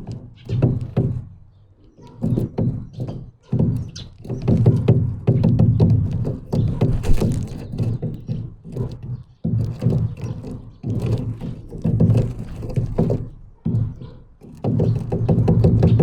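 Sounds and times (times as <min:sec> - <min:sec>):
birds pecking and scrabbling: 0:00.0 - 0:16.0.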